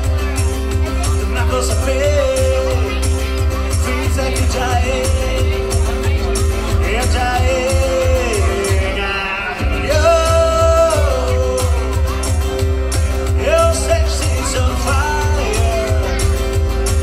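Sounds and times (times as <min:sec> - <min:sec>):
strummed acoustic guitar: 0:00.0 - 0:17.0
man singing through a pa: 0:01.1 - 0:12.3, 0:13.3 - 0:16.4.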